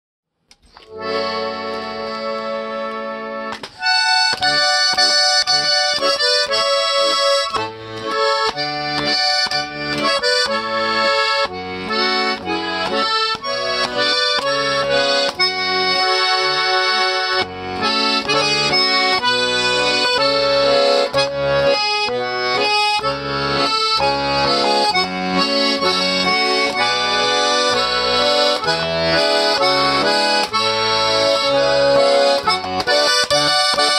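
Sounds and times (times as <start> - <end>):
button accordion playing a tune: 0.7 - 33.9.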